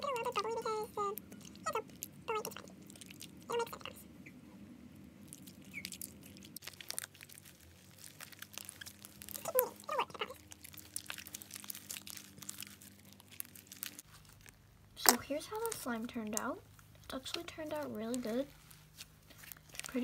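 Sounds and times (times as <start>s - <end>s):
slime squeaks: 0.0s - 4.4s, 5.2s - 20.0s.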